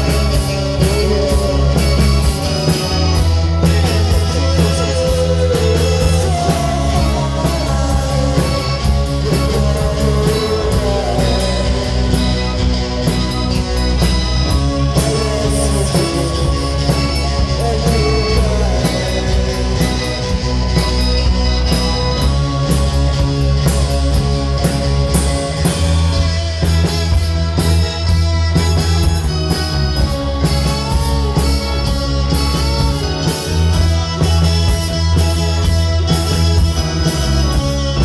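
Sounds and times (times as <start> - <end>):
distorted electric guitar: 0.0 - 38.0
drum kit: 0.0 - 38.0
heavy bass line: 0.0 - 38.0.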